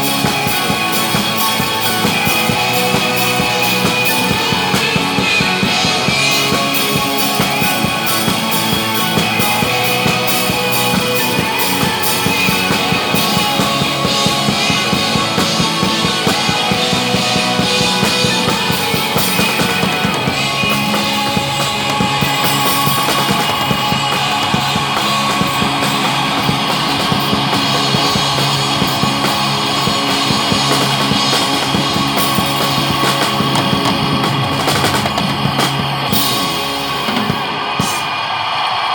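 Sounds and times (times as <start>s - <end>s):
drum kit played hard: 0.0s - 38.9s
rock music with guitar: 0.0s - 38.9s.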